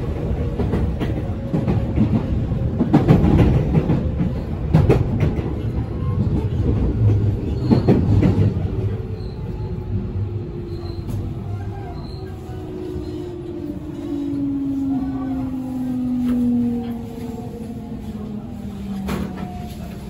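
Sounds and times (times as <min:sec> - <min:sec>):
train cabin rumble: 0:00.0 - 0:20.0.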